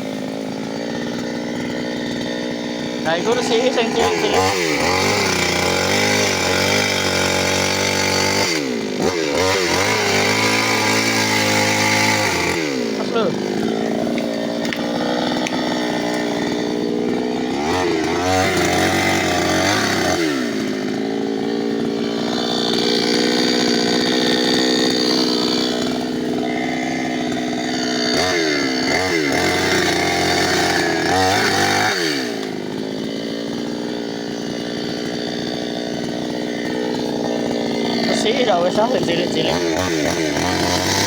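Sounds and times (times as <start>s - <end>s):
chainsaw running and revving: 0.0s - 41.0s.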